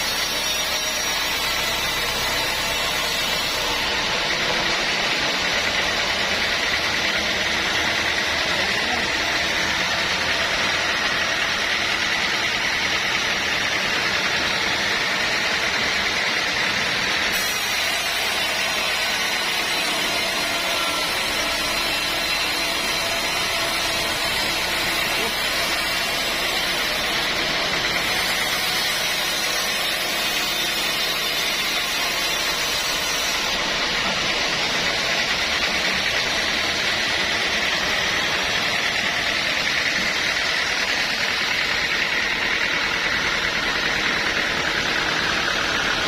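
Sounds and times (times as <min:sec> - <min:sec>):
sawmill machinery whirring: 0:00.0 - 0:46.0.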